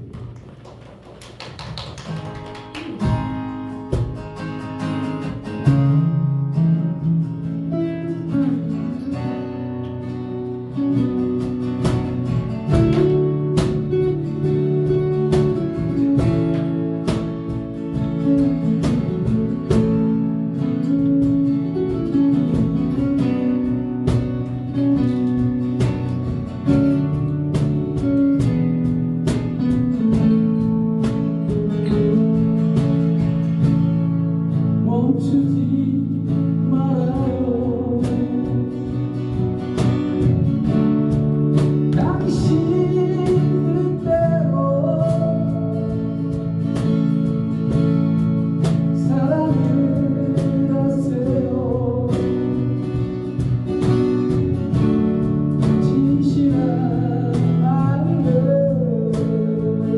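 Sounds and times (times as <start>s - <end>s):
acoustic guitar strumming chords: 2.2s - 59.9s.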